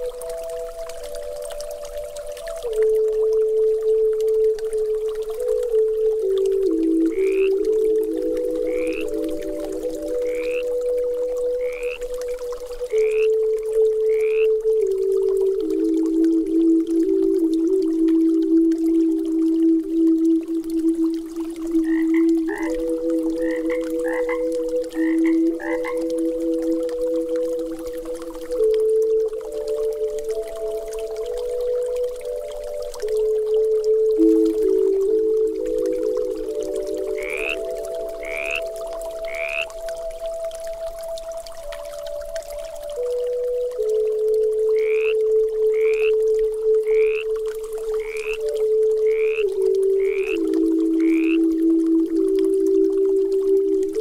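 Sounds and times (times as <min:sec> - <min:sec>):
creek water running: 0:00.0 - 0:54.0
frogs croaking: 0:00.0 - 0:54.0.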